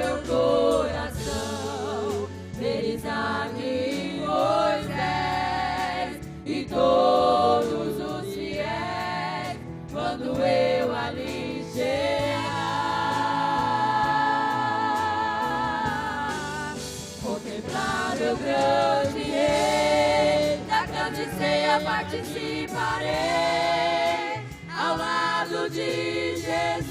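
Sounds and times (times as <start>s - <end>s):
women's choir singing a hymn: 0.0s - 26.9s.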